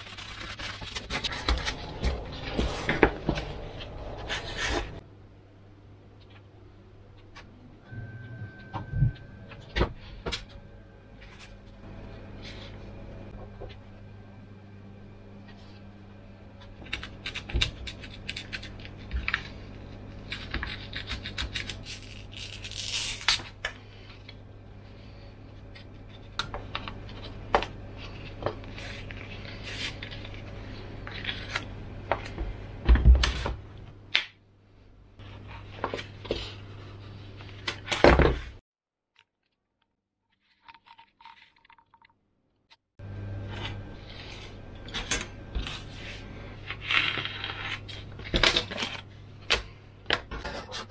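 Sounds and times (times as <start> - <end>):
steady low hum: 0.0 - 38.6, 42.9 - 50.9.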